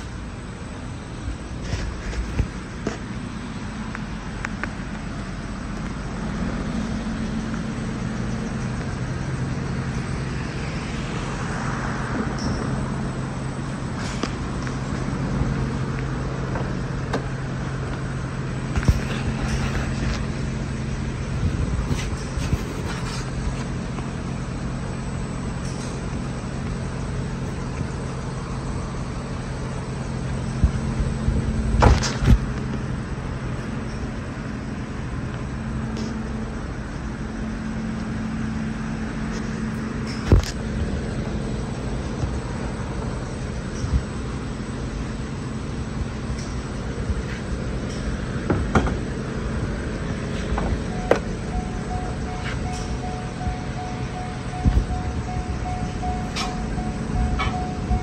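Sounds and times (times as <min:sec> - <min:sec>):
car engine idling: 0:00.0 - 0:58.0
low machinery hum: 0:00.0 - 0:58.0.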